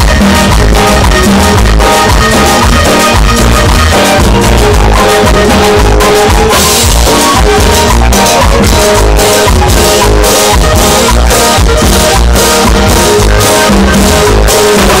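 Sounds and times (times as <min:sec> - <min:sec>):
bass guitar: 0:00.0 - 0:15.0
button accordion melody: 0:00.0 - 0:15.0
drums: 0:00.0 - 0:15.0.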